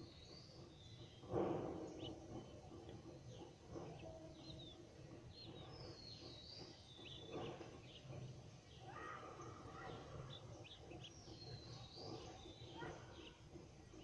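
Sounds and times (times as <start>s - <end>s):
faint birds chirping: 0.0s - 14.0s
low steady background noise: 0.0s - 14.0s.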